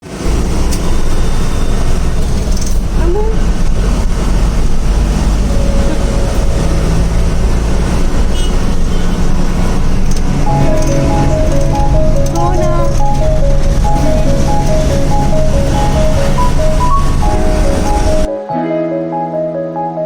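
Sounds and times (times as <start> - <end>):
bus engine rumble: 0.0 - 18.3
road noise: 0.0 - 18.4.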